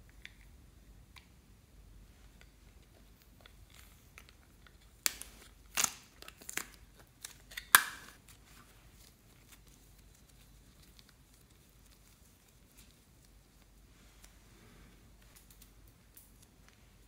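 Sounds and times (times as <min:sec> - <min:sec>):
soft handling of clay: 0:01.9 - 0:17.0.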